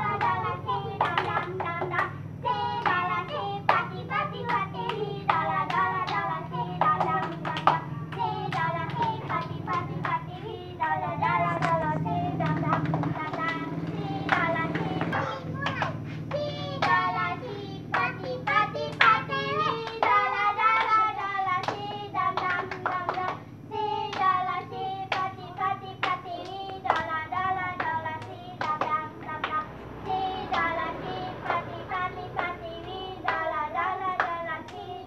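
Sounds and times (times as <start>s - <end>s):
children singing: 0.0s - 35.0s
rhythmic hand claps: 0.0s - 35.0s.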